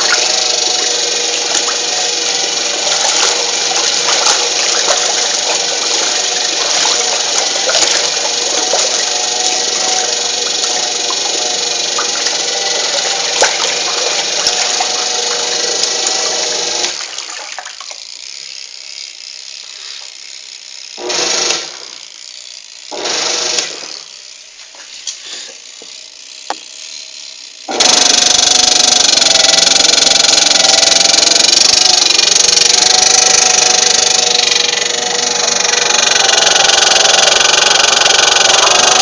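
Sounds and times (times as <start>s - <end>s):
washing machine running with whine: 0.0s - 39.0s.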